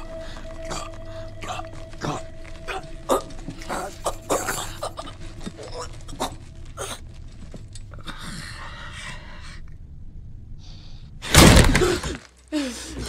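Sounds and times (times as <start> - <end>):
low steady drone: 0.0 - 11.2.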